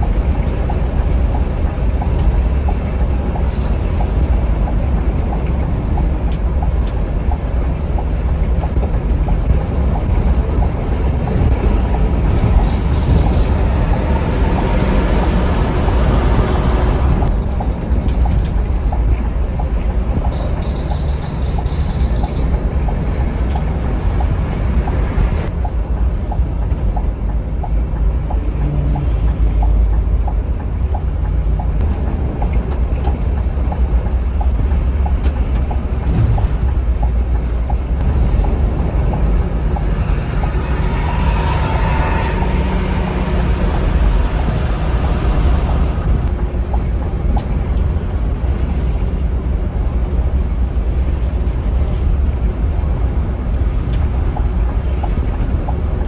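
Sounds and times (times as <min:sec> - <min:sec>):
broad rushing noise: 0:00.0 - 0:25.7, 0:26.4 - 0:56.0
light regular ticking: 0:00.0 - 0:49.0
coach engine and tyres rumbling: 0:00.0 - 0:56.0.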